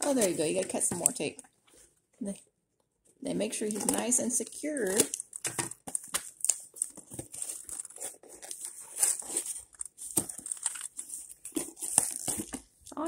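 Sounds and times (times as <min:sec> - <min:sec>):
cardboard crinkling and scraping: 0:00.0 - 0:02.0, 0:03.4 - 0:12.8.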